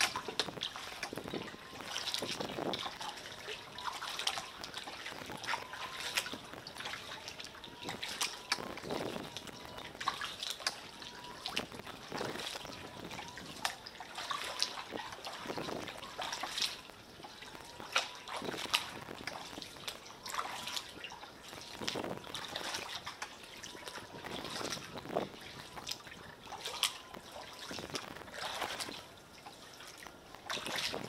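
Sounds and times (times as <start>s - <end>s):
paddle strokes splashing water: 0.0s - 31.0s
water dripping off paddle blades: 0.0s - 31.0s.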